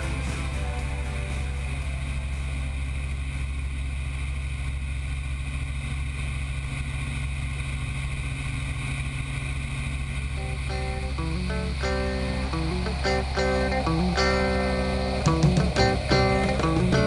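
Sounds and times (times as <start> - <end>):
helicopter rotor and engine drone: 0.0 - 17.0.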